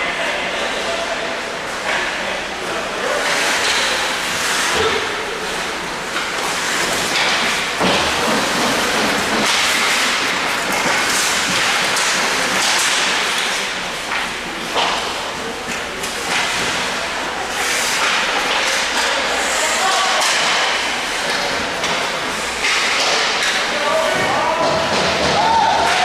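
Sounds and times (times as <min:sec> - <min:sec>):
skates scraping ice: 0:01.7 - 0:26.0
sticks and puck clacking: 0:01.7 - 0:26.0.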